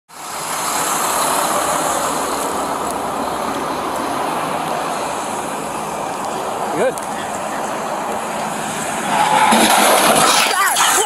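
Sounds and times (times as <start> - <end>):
highway traffic rushing: 0.1 - 11.0.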